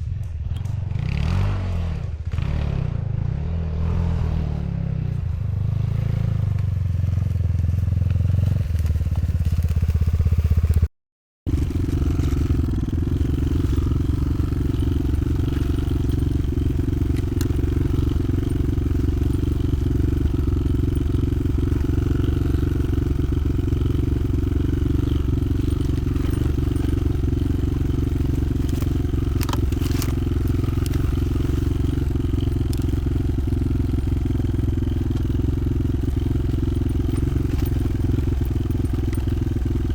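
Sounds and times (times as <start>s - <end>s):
motorcycle engine running: 0.0s - 10.9s, 11.5s - 39.9s.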